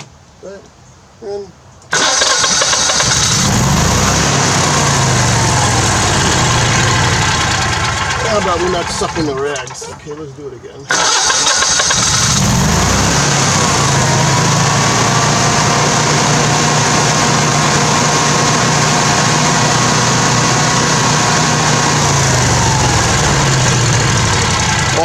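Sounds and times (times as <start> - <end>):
generator engine running: 1.9 - 25.0.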